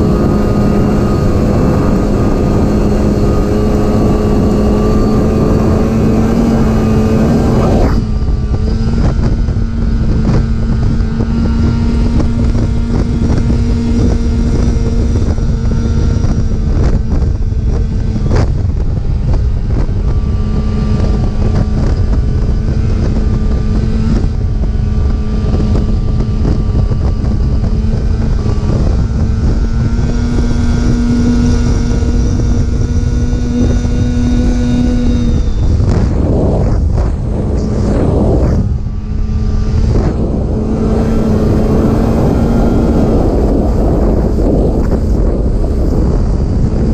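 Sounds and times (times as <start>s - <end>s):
snowmobile engine running: 0.0s - 46.9s
wind noise on microphone: 0.0s - 46.9s.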